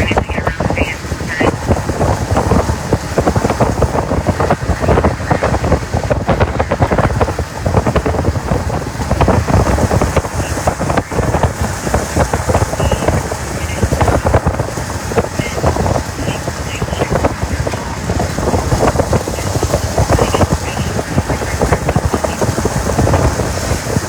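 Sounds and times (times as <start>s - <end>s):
road noise: 0.0s - 24.0s
storm wind and rain: 0.0s - 24.0s.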